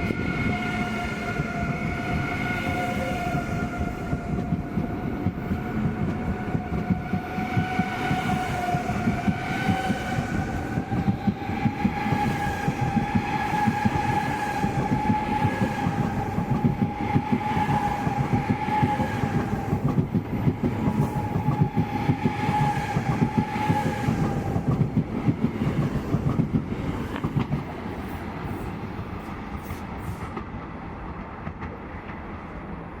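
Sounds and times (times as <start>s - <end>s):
electric train whine: 0.0s - 31.3s
train wheels clattering: 1.4s - 30.6s.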